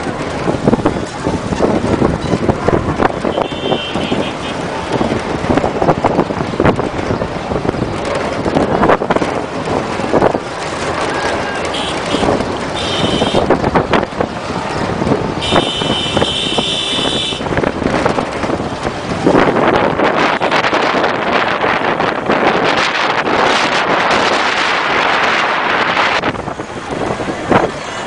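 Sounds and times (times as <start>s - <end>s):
loud outdoor din: 0.0s - 25.3s
wind buffeting microphone: 0.0s - 28.0s.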